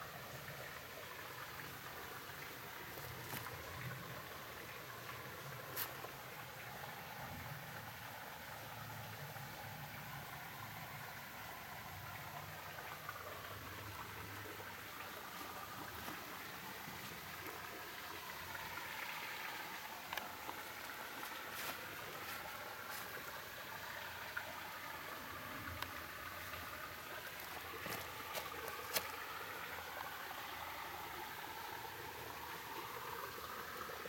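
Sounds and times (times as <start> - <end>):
faint outdoor hiss: 0.0 - 34.0.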